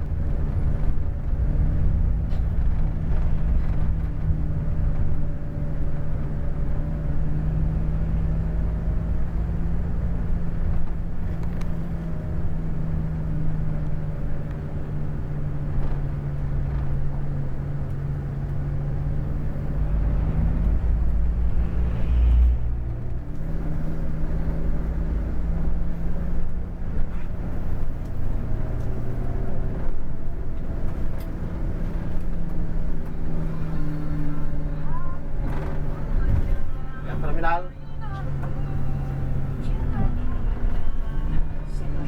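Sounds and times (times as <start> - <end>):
bus engine drone: 0.0 - 42.0
road rumble: 0.0 - 42.0.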